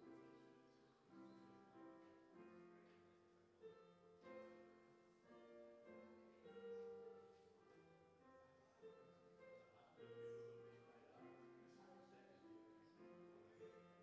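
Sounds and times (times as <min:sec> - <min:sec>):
slow soft keyboard chords: 0:00.0 - 0:14.0.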